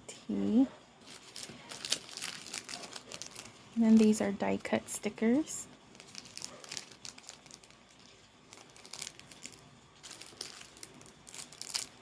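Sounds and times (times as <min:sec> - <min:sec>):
packaging crinkling and rustling: 0:01.0 - 0:04.9, 0:05.8 - 0:12.0.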